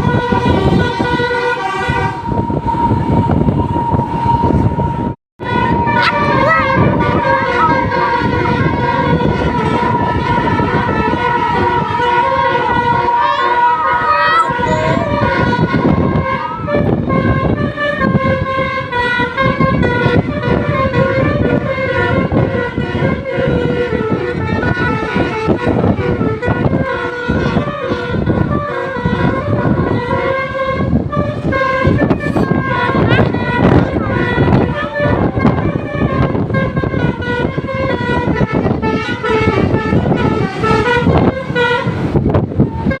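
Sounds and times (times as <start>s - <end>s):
bus passing: 0.0s - 43.0s
multi-tone air horn melody: 0.0s - 43.0s.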